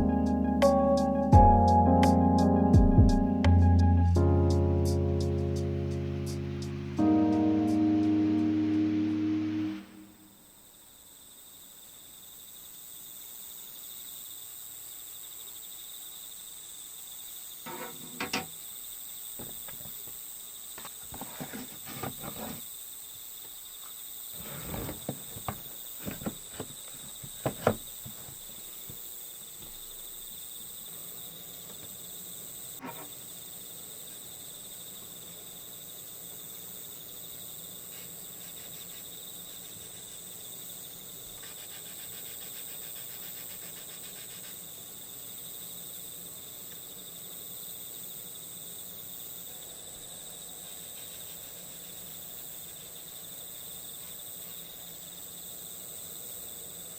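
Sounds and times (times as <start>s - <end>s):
crickets chirring: 4.2s - 56.9s.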